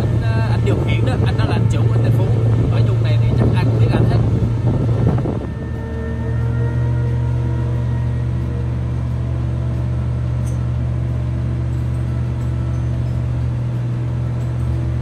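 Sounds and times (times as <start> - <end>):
boat hoist engine droning: 0.0 - 15.0.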